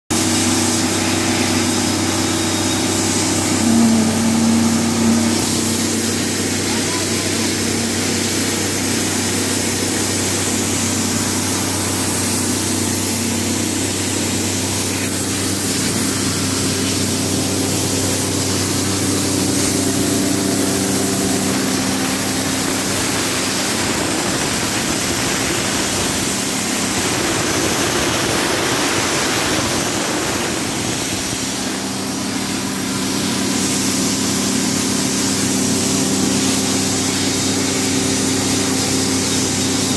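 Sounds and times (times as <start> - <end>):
machine running: 0.1 - 39.9
hose nozzle spray hissing: 0.2 - 39.9.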